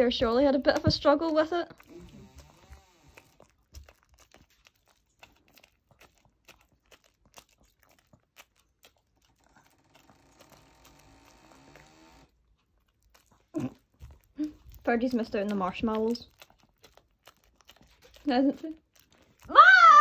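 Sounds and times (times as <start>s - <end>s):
dog chewing with mouth clicks: 0.0s - 19.6s.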